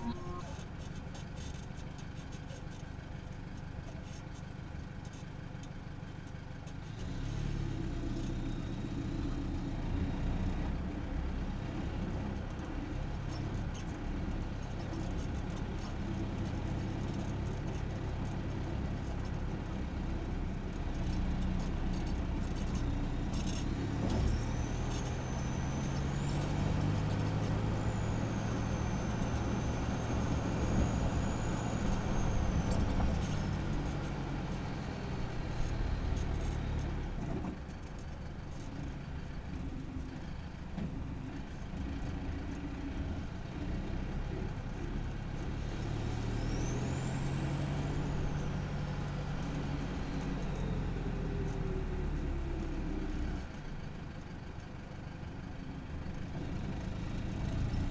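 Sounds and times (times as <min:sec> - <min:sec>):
diesel engine driving: 0:00.0 - 0:57.9.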